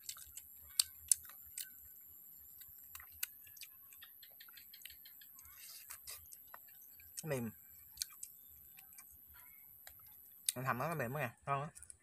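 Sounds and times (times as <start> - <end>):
chewing and mouth smacks: 0.0 - 10.7.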